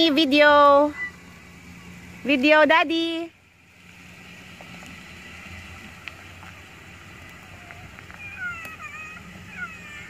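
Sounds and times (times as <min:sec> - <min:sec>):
soft hiss: 0:00.0 - 0:09.4
low hum: 0:00.0 - 0:10.0.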